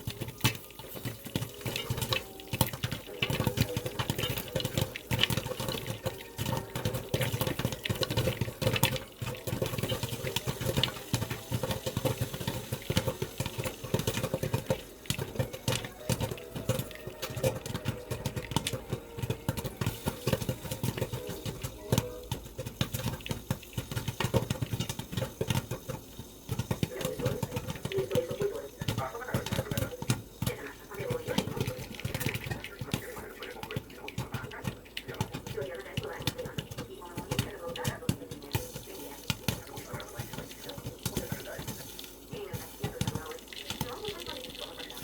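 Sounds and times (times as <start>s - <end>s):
popcorn popping in a pot: 0.0s - 45.0s.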